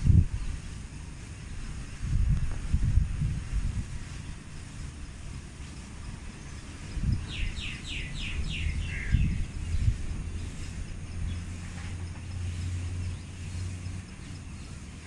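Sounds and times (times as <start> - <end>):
gusty rumbling: 0.0 - 14.2
low hum: 0.0 - 15.0.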